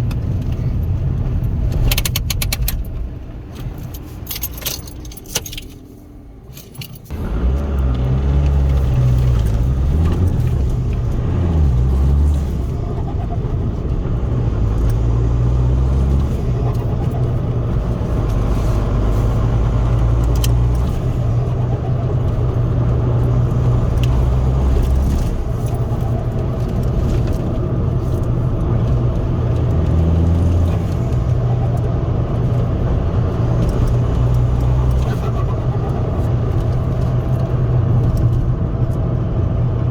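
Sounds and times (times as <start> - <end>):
road noise: 0.0 - 39.9
diesel engine drone revving: 7.1 - 39.9.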